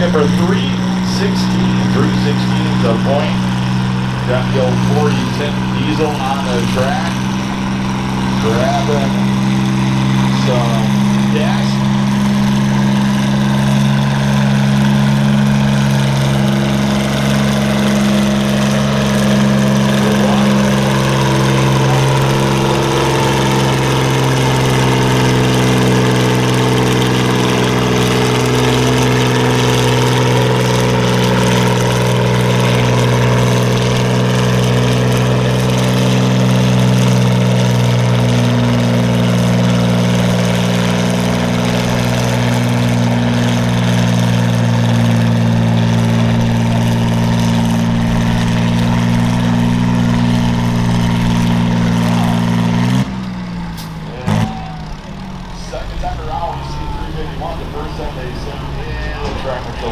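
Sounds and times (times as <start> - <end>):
tractor engine at high throttle: 0.0 - 59.9.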